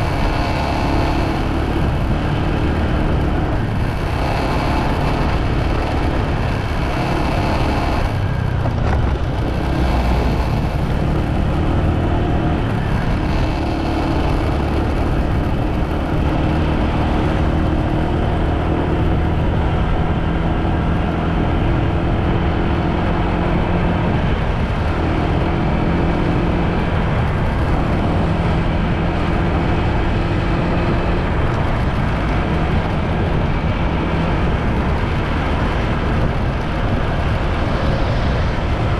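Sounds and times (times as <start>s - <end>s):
motorbike engine cruising: 0.0s - 38.9s
road and wind noise: 0.0s - 38.9s.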